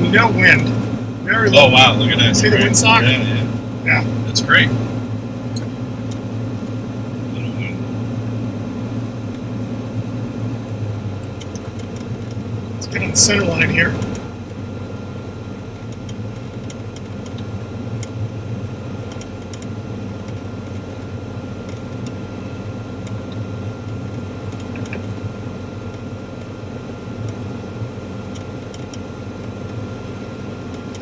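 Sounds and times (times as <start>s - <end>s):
aircraft engine running: 0.0s - 31.0s.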